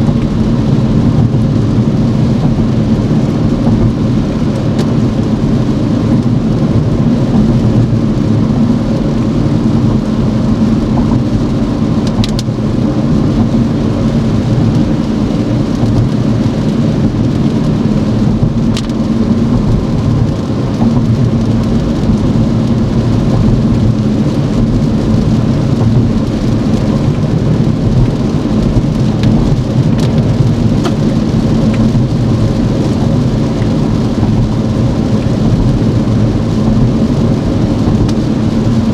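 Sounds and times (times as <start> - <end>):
rain hitting car: 0.0 - 38.9
tyre noise on wet road: 0.0 - 38.9.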